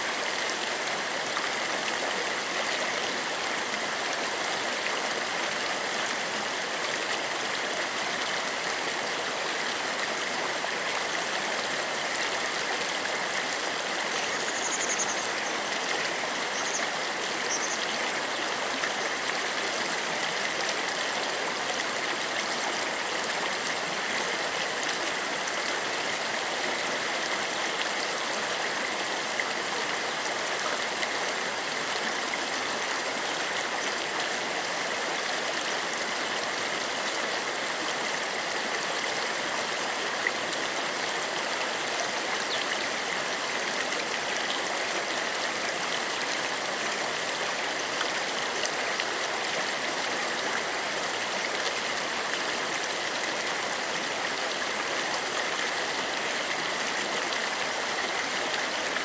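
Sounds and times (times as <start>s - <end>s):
stream running over pebbles: 0.0s - 59.0s.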